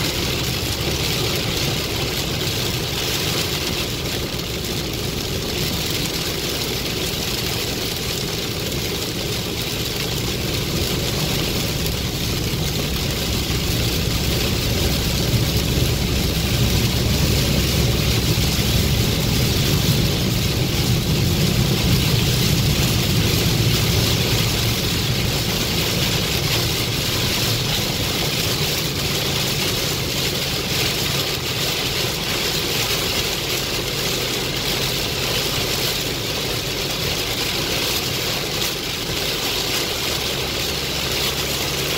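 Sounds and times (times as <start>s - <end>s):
car engine and tyres rumbling: 0.0s - 41.9s
heavy rain on car roof: 0.0s - 41.9s.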